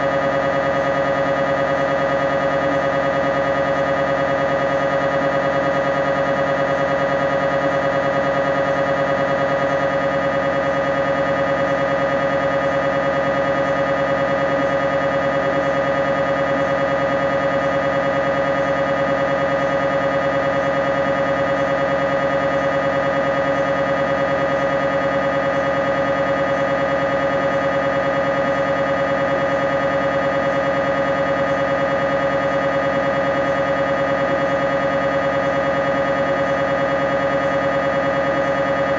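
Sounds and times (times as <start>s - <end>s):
mri scanner buzzing: 0.0s - 38.9s.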